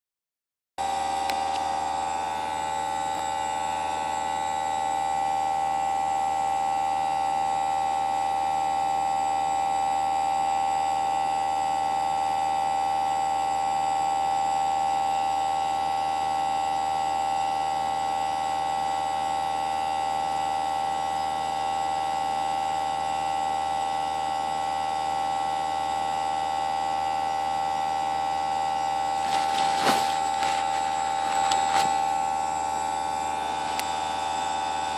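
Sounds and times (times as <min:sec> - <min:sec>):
heat pump humming whine: 0:00.8 - 0:34.9.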